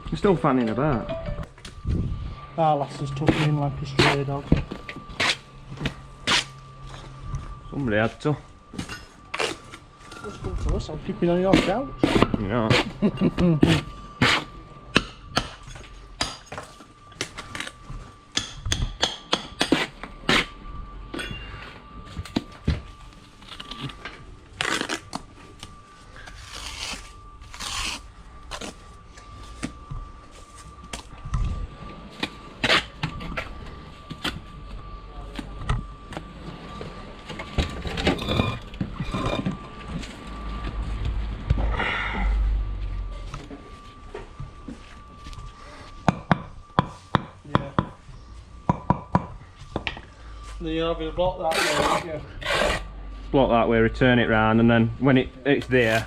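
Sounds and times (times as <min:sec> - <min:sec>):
thin steady whine: 0:00.0 - 0:56.0.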